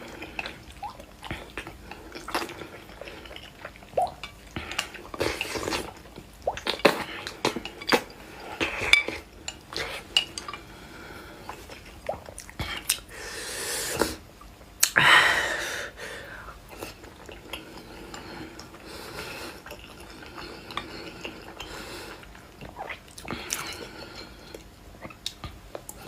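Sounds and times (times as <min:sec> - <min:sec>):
chewing noodles: 0:00.0 - 0:13.1, 0:16.7 - 0:26.0.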